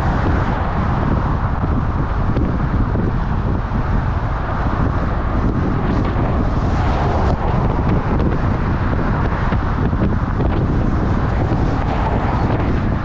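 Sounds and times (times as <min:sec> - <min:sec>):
wind blowing over microphone: 0:00.0 - 0:13.0.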